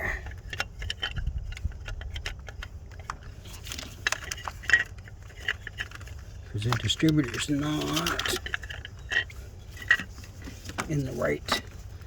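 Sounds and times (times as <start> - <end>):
low steady rumble: 0.0 - 12.0
metal tools clinking: 0.0 - 12.0.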